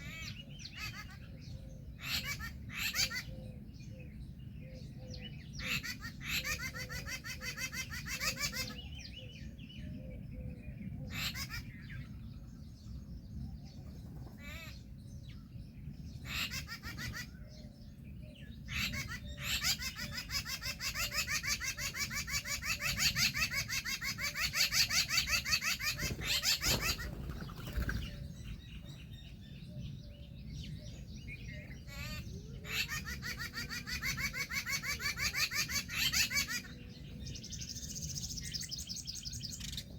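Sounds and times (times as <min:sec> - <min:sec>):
birds chattering calls: 0:00.0 - 0:39.9.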